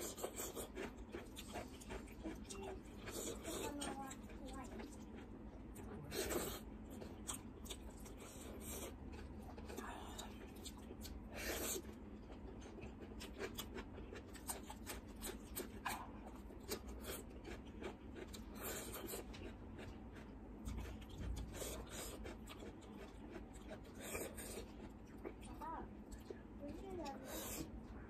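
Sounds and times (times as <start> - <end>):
chewing with wet mouth clicks: 0.0 - 27.6.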